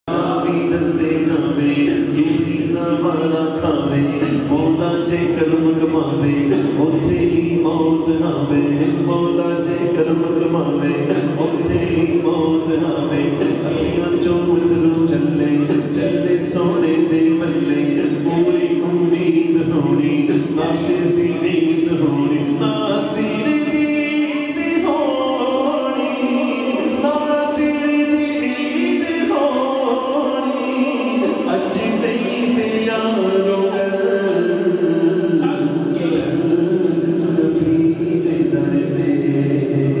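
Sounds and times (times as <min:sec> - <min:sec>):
man singing into a microphone: 0:00.0 - 0:40.0.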